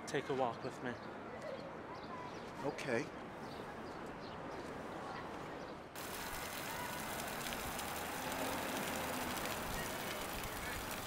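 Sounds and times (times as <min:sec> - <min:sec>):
rushing park ambience: 0:00.0 - 0:11.0.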